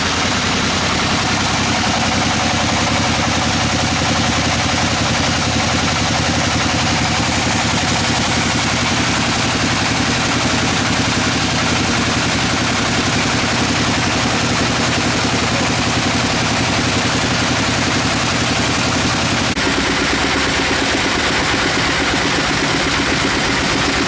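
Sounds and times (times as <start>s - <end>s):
sawmill saw cutting log: 0.0s - 24.0s.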